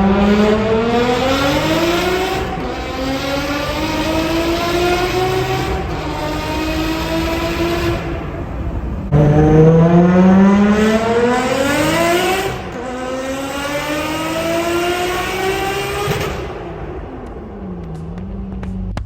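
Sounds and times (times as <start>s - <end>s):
car engine accelerating hard: 0.0s - 19.0s.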